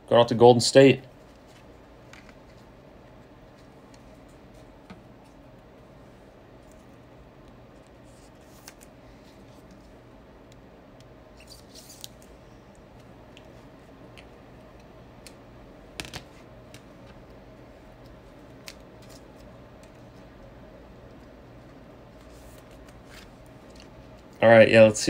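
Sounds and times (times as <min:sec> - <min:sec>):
low steady hum: 0:00.0 - 0:25.0
cards being handled: 0:01.2 - 0:05.4, 0:06.6 - 0:15.4, 0:16.0 - 0:20.4, 0:21.0 - 0:24.4.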